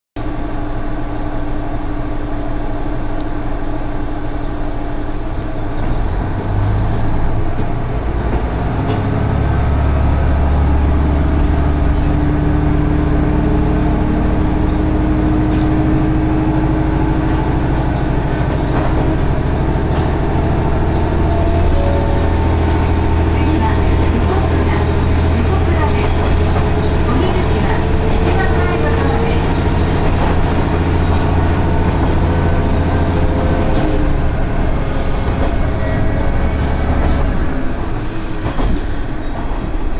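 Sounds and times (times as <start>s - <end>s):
diesel train engine: 0.2s - 39.9s.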